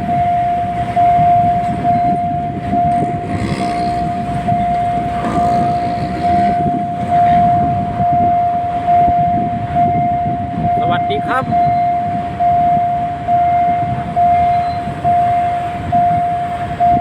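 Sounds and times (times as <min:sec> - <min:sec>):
level crossing warning alarm: 0:00.0 - 0:17.0
road traffic rumble: 0:00.0 - 0:17.0.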